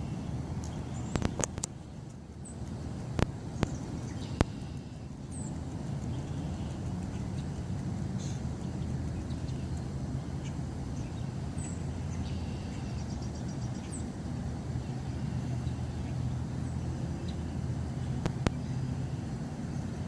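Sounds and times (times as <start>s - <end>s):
distant road traffic rumble: 0.0s - 20.0s
small birds chirping: 0.0s - 20.0s.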